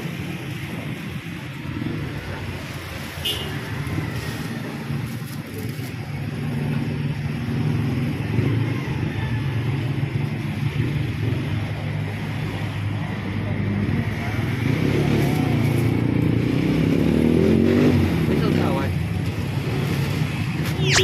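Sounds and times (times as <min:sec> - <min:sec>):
street traffic: 0:00.0 - 0:21.0
vehicle engine running nearby: 0:00.0 - 0:21.0.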